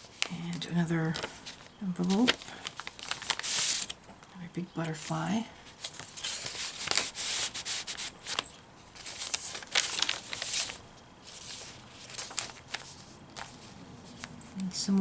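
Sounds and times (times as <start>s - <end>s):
paper pages rustling: 0.0s - 4.3s, 5.0s - 14.6s.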